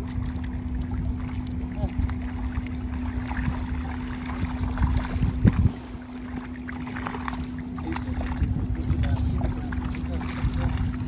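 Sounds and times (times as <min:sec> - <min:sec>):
steady low hum: 0:00.0 - 0:11.0
water splashing and dripping: 0:00.0 - 0:11.0
wind rumbling on microphone: 0:00.0 - 0:11.0.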